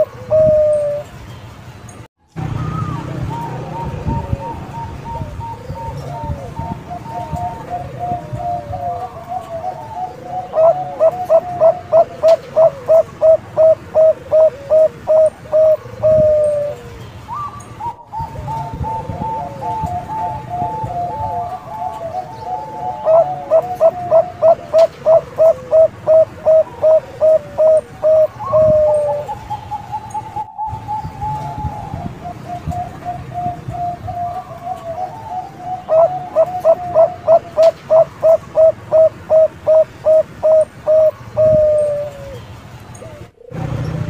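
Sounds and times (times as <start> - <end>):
dove cooing: 0.0 - 1.1, 2.5 - 44.0.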